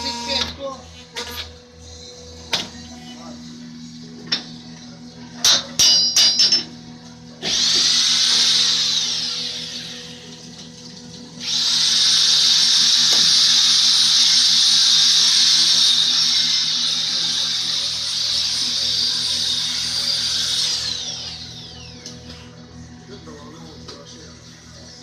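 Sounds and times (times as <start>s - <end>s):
high hissing hydraulic whine: 0.0s - 4.5s, 7.4s - 10.6s, 11.4s - 25.0s.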